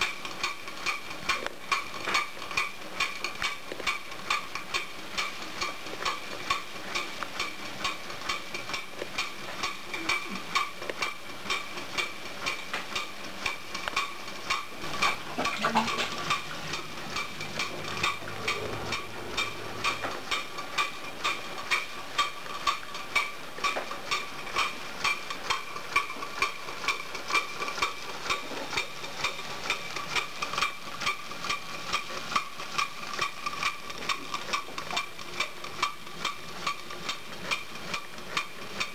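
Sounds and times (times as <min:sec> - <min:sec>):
steam engine exhaust beats: 0:02.5 - 0:38.9.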